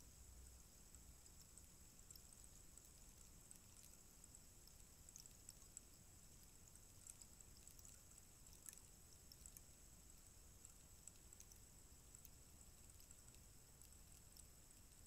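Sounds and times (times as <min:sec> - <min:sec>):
rainstick trickling: 0:01.2 - 0:15.0.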